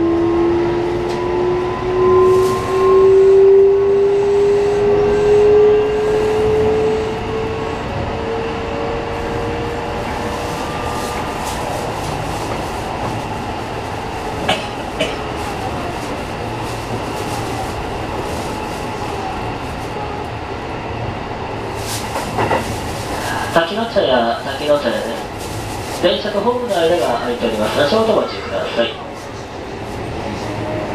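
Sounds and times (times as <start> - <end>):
train wheels rumbling on track: 0.0 - 30.9.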